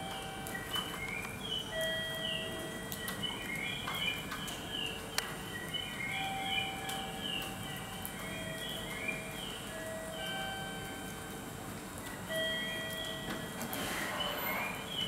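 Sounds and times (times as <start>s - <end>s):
birds chirping: 0.0s - 15.0s
steady background hum: 0.0s - 15.0s.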